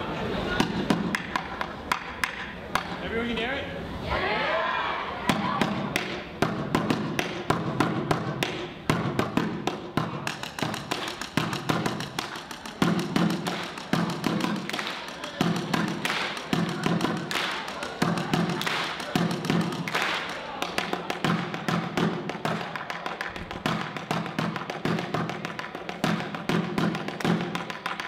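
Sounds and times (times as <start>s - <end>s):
drumsticks tapping buckets: 0.6s - 3.0s, 5.3s - 28.0s.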